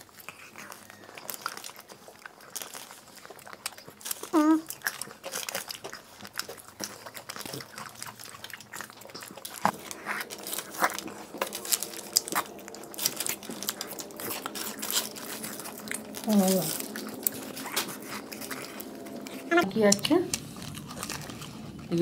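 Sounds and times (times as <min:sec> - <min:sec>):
crunching wafer cones: 0:00.0 - 0:22.0.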